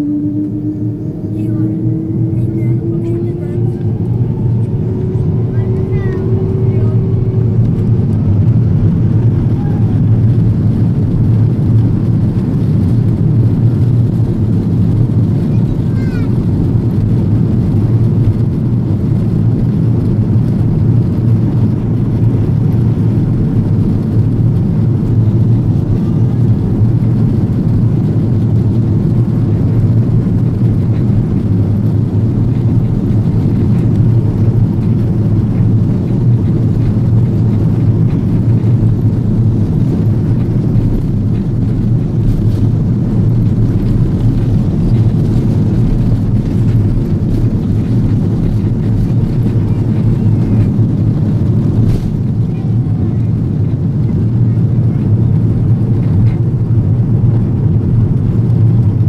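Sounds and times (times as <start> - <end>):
jet engines at low thrust: 0.0 - 59.0.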